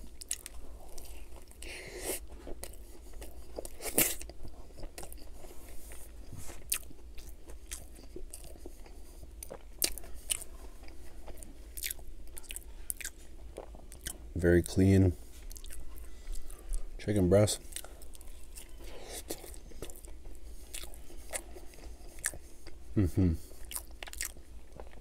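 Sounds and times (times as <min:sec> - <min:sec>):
biting and chewing crunchy food: 0:00.0 - 0:25.0.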